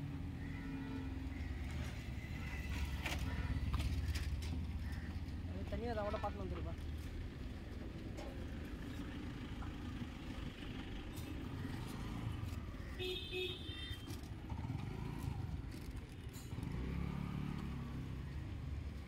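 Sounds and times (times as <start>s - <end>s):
passing vehicles rumble: 0.0s - 19.0s.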